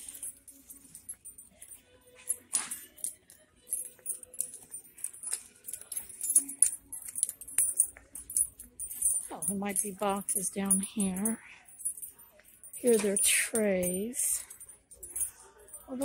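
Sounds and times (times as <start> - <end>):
small metal items jingling: 0.0 - 16.0.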